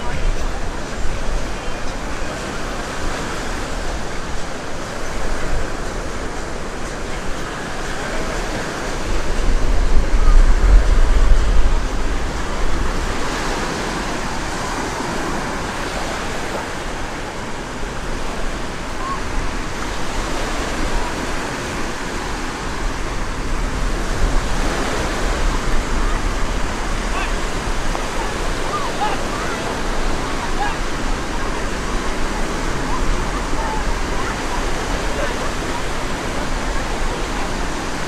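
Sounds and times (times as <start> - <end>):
murmur of distant voices: 0.0 - 38.0
waves washing onto beach: 0.0 - 38.0
wind buffeting microphone: 0.0 - 38.0.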